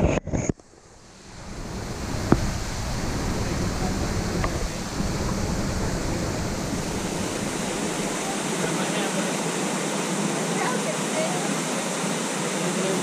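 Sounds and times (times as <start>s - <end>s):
stream rushing over rocks: 0.6s - 13.0s.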